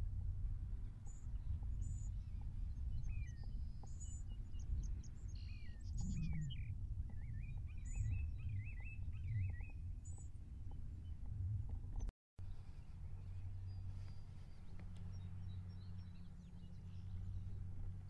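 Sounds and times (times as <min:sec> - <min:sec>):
steady low rumble: 0:00.0 - 0:18.0
small birds calling and singing: 0:00.8 - 0:11.3, 0:12.0 - 0:18.0.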